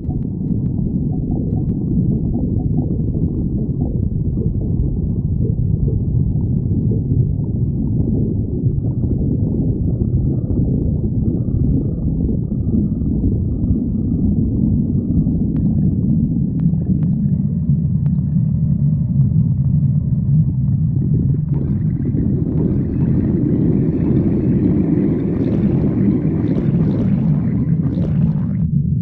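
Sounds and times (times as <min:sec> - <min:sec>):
stomach growling: 0:00.0 - 0:29.0.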